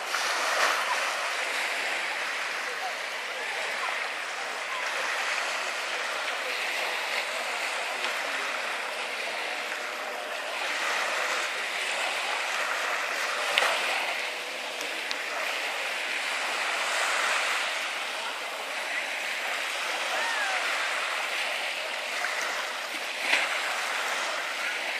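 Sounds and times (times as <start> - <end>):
sea water lapping and splashing: 0.0 - 24.9.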